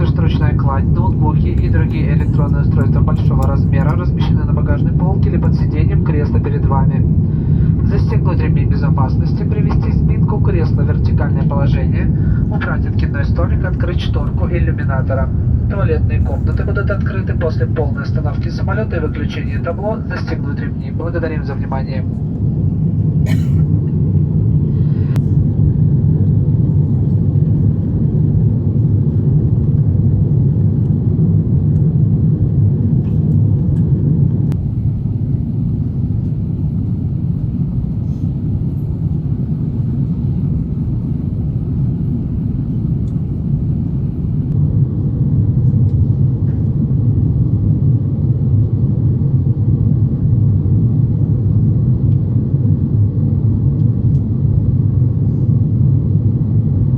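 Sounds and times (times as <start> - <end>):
aircraft cabin engine rumble: 0.0 - 56.9.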